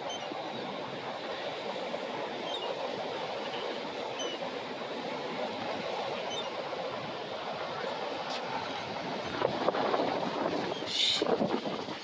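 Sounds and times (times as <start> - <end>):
ocean surf on sandy beach: 0.0 - 12.0.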